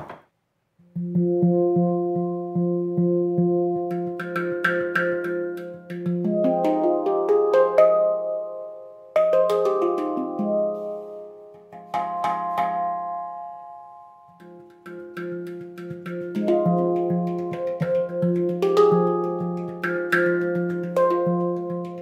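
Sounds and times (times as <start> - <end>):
handpan notes ringing: 1.0 - 22.0.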